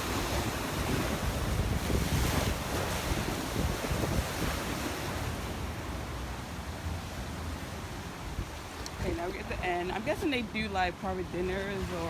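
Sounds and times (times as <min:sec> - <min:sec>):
wind buffeting microphone: 0:00.0 - 0:05.9, 0:06.6 - 0:12.0
sea waves washing: 0:00.0 - 0:12.0.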